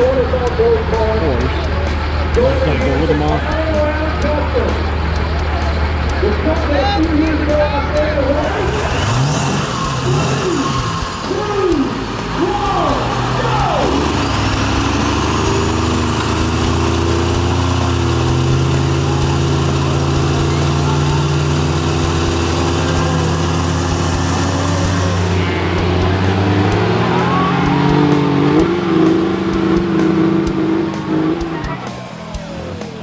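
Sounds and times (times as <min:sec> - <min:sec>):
heavy vehicle engine revving: 0:00.0 - 0:33.0
high whine: 0:04.5 - 0:32.7.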